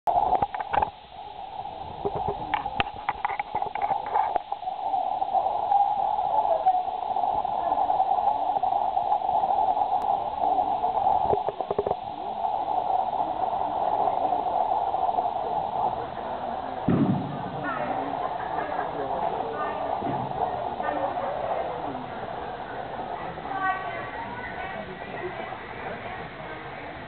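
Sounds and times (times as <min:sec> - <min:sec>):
steady mid-pitched hum: 0:00.1 - 0:27.0
muffled arena hubbub: 0:05.0 - 0:27.0.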